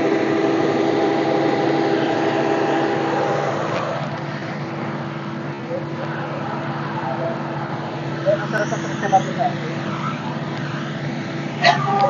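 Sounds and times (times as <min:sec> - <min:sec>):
diesel engine and auger running: 0:00.0 - 0:12.0.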